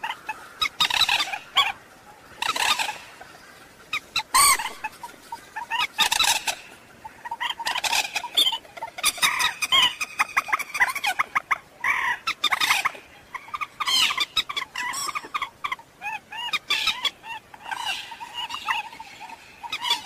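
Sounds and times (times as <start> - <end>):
moorhen clucking calls: 0.0 - 20.0.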